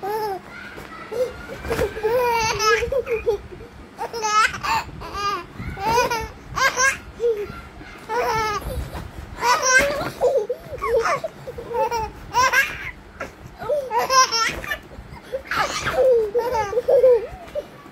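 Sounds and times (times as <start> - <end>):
baby laughing: 1.1 - 17.9.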